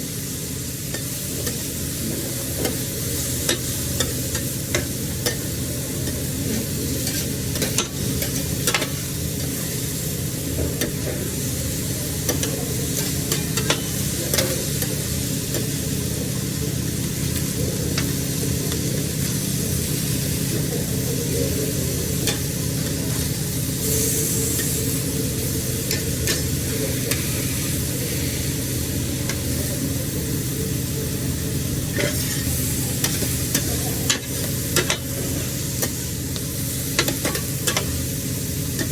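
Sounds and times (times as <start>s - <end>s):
seafood sizzling on a grill: 0.0s - 38.9s.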